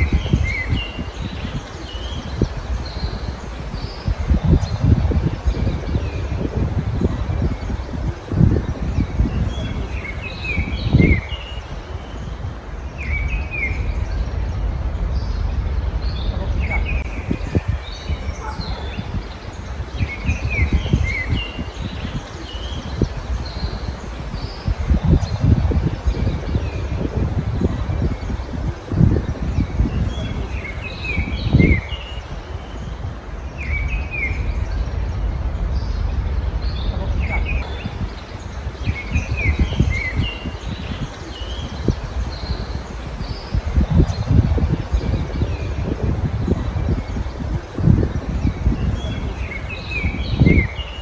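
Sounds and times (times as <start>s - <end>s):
low background rumble: 0.0s - 51.0s
songbirds chirping and twittering: 0.0s - 51.0s.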